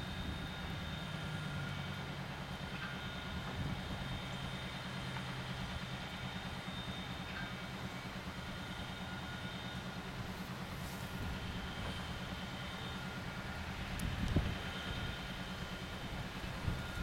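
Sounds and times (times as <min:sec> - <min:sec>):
pumpjack droning with fast throb: 0:00.0 - 0:17.0.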